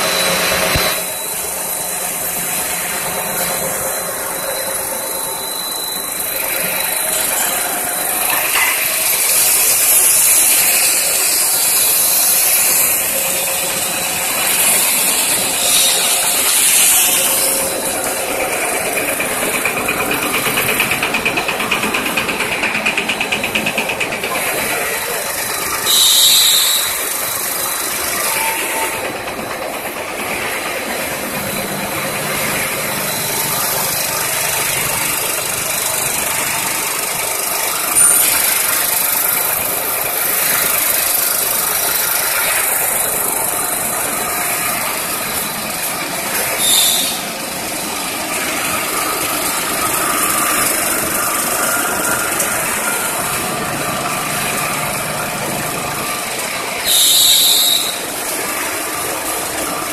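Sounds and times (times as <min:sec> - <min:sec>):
factory machinery din: 0:00.0 - 0:59.9.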